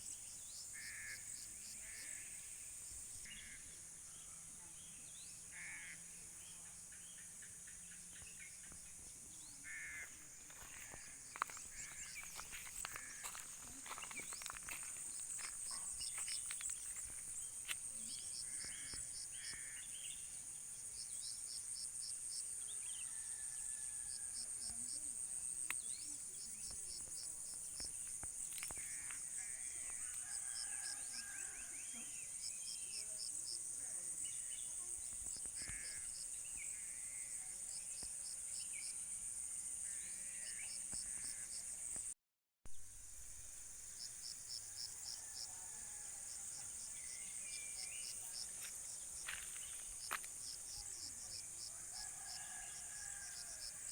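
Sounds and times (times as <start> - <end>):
insects droning: 0.0 - 42.1, 42.8 - 53.9.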